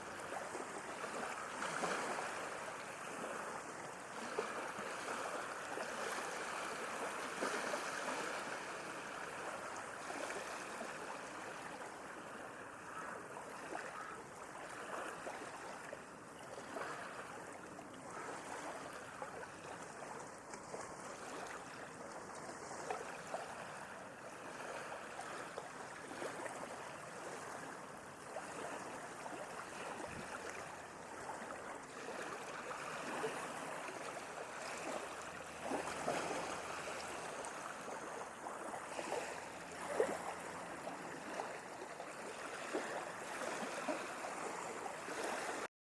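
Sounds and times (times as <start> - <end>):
sea waves lapping: 0.0 - 45.7.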